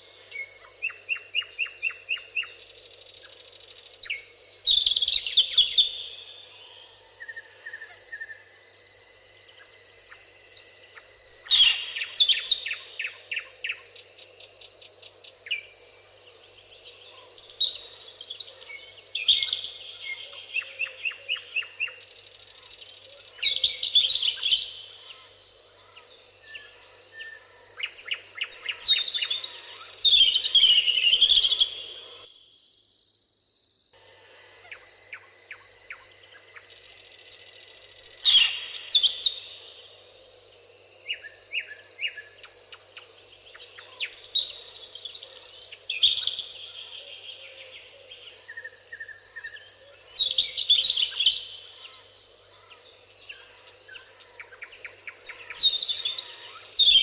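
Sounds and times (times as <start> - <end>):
songbirds singing and trilling: 0.0 - 57.0.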